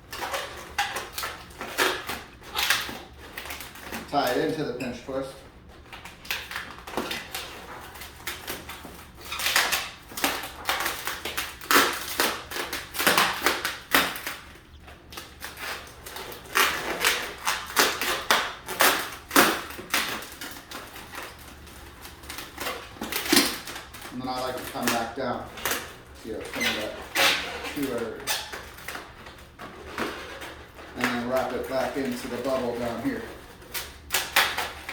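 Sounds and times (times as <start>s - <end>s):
balloons rubbing and squeaking: 0.0s - 5.9s, 9.1s - 34.9s.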